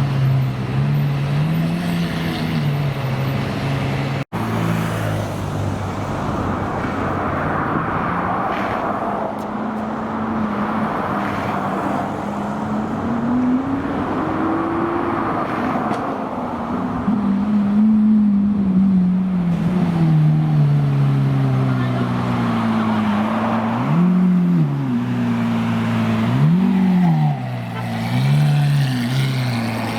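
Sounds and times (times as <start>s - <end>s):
traffic noise: 0.0s - 29.9s.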